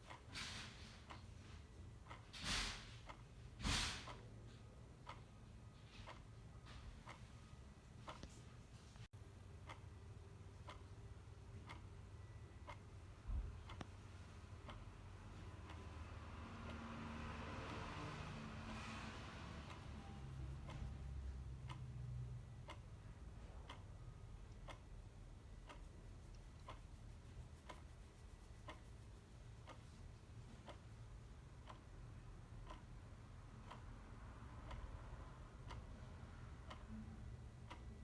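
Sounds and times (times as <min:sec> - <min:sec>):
clock ticking: 0:00.0 - 0:08.4, 0:09.2 - 0:38.0.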